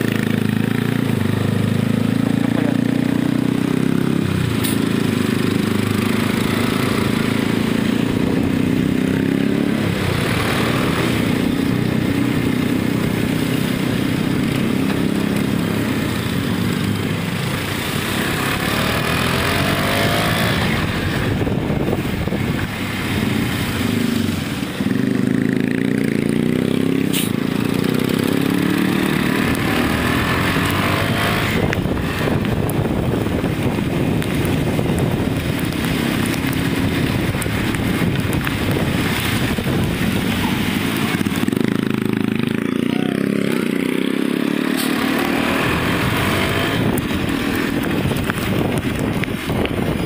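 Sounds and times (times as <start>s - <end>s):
motorcycle engines running: 0.0s - 50.0s
wind noise: 3.8s - 25.5s, 28.8s - 42.6s, 45.3s - 50.0s.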